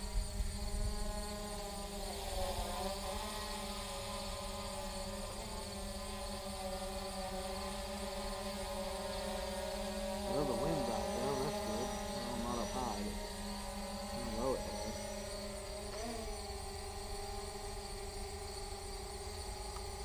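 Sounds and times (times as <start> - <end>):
drone propellers buzzing: 0.0 - 20.0.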